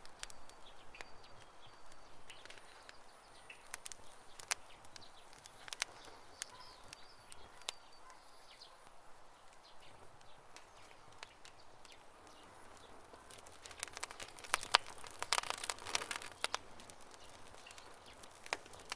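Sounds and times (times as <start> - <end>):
campfire crackling: 0.0 - 18.9.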